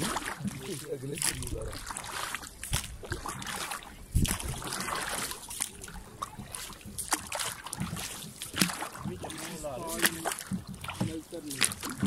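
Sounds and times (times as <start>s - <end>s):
paddles knocking against hull: 0.0s - 12.0s
water splashing: 0.0s - 12.0s.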